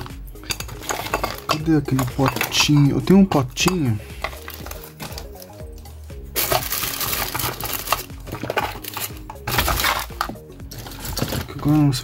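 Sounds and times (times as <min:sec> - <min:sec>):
small hard objects clattering: 0:00.0 - 0:12.0.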